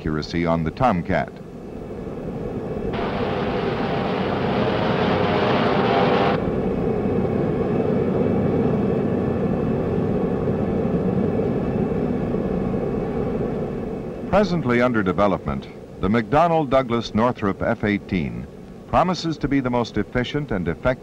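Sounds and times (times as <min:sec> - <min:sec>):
jet engines running: 0:01.4 - 0:21.0.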